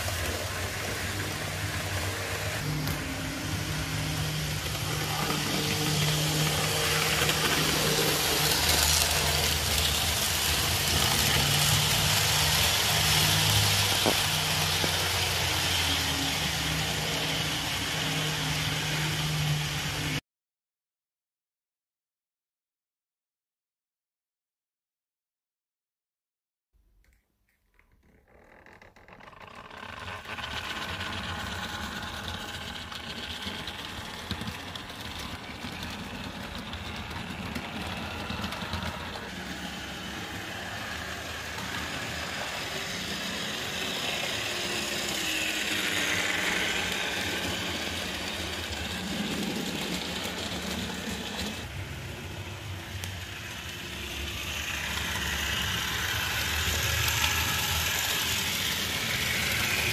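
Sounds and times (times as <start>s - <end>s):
electric motor hum: 0.0s - 20.2s, 29.3s - 59.9s
wheels rattling over track: 0.0s - 20.2s, 29.0s - 59.9s.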